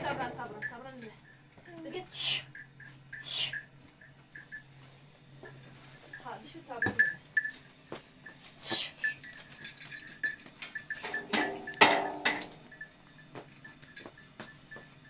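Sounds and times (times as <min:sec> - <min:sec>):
small bell clinking: 0:00.4 - 0:15.0.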